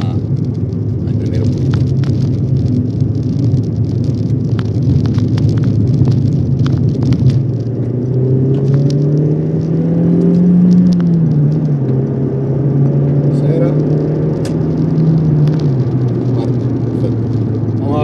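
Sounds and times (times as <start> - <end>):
light rattles and clicks: 0.0 - 12.1, 13.3 - 18.0
car engine accelerating: 0.0 - 18.0
road noise inside car: 0.0 - 18.0.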